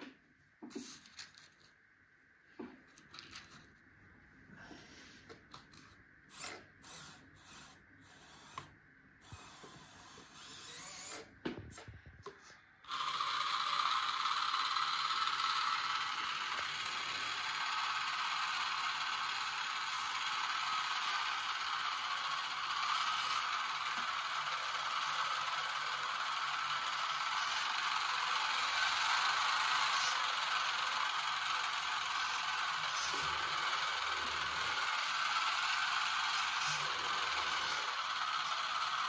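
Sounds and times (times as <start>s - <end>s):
small electric motor whirring: 6.3s - 12.0s, 12.8s - 39.0s.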